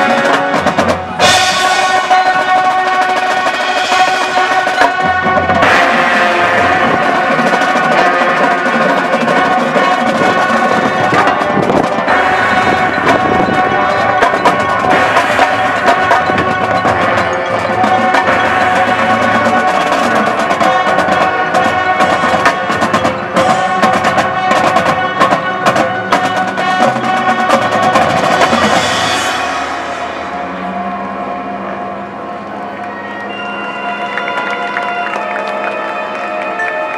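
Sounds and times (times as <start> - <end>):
marching band playing: 0.0 - 36.9.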